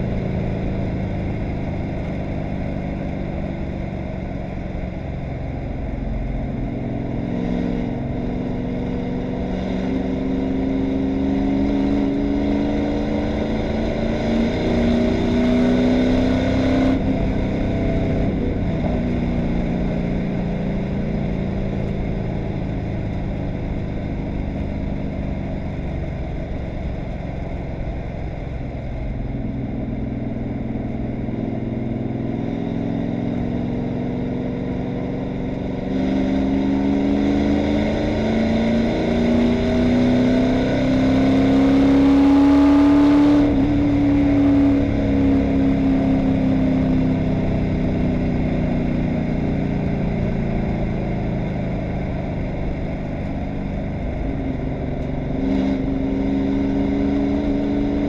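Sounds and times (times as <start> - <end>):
race car engine from inside: 0.0 - 58.0.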